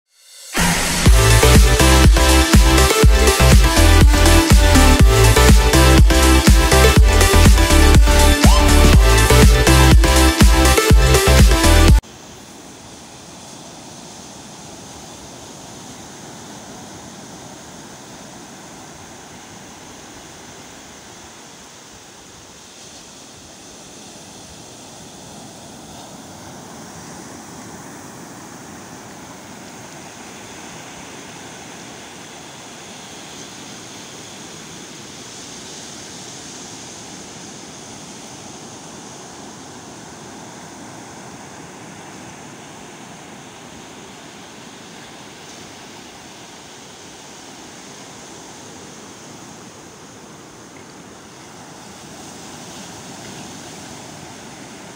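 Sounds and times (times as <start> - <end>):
waves breaking on beach: 0.4 - 54.9.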